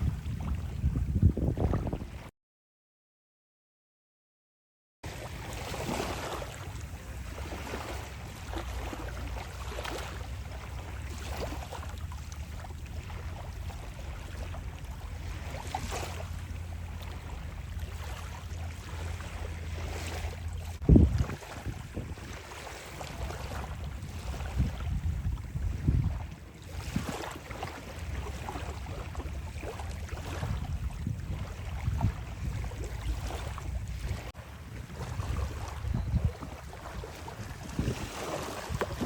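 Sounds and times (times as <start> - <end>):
wind: 0.0 - 2.3, 5.0 - 39.0
surf washing: 5.1 - 39.0.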